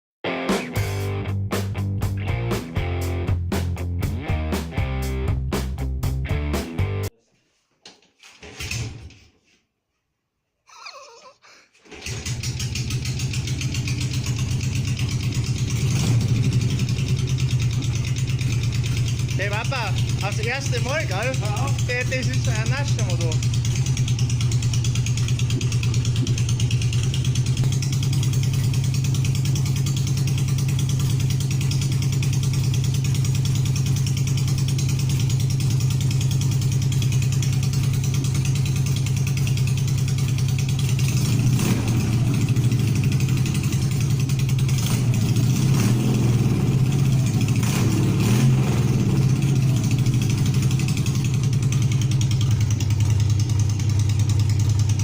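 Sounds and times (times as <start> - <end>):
engine idling and revving: 0.7 - 7.0, 12.0 - 55.0.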